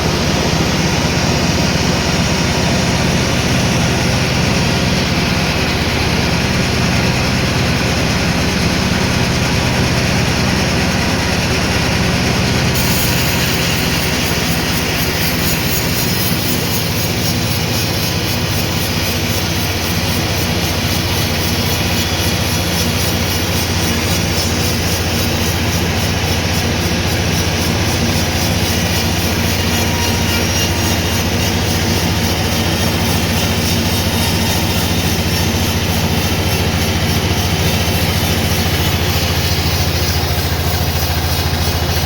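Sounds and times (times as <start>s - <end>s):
sawmill machinery drone: 0.0s - 42.0s.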